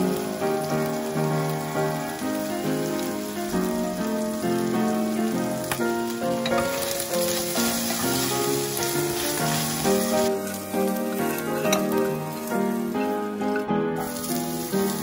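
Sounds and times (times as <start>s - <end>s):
background music melody: 0.0s - 15.0s
chicken sizzling in hot oil: 0.0s - 15.0s.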